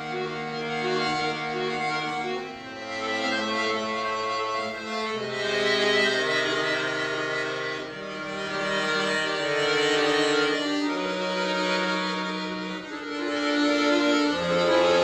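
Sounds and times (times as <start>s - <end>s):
accordion playing chords: 0.0s - 15.0s.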